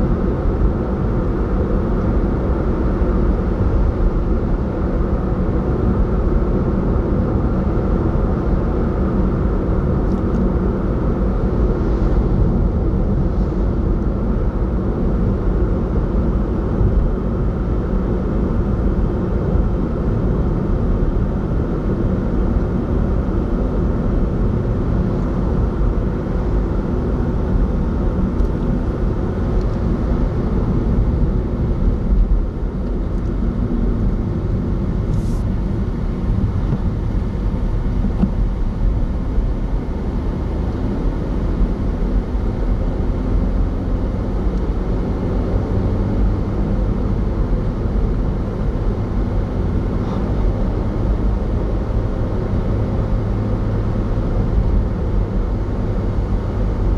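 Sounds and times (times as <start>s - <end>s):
car engine hum: 0.0s - 56.9s.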